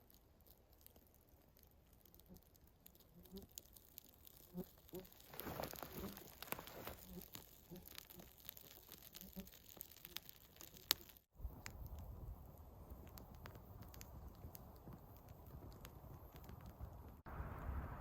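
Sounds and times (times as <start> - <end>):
rustling and crinkling: 0.0 - 17.3.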